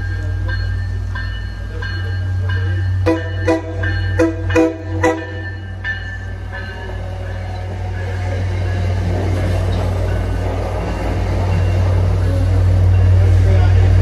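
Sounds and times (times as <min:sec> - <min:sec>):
train bell ringing: 0:00.0 - 0:14.0
train coaches rumbling past: 0:00.0 - 0:14.0.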